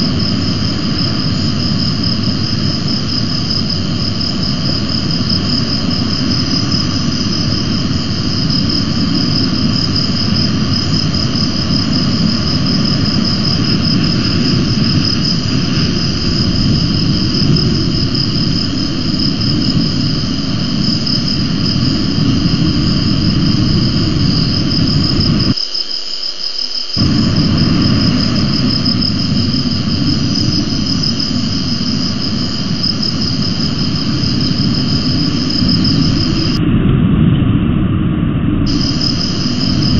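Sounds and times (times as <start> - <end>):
wind buffeting microphone: 0.0 - 25.6, 27.0 - 39.9
high-pitched insect trill: 0.0 - 36.6, 38.7 - 39.9.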